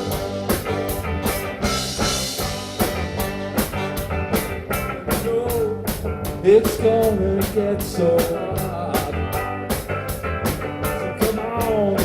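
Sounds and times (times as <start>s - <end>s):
drum kit beat: 0.0s - 12.0s
guitar: 0.0s - 12.0s
live band playing: 0.0s - 12.0s.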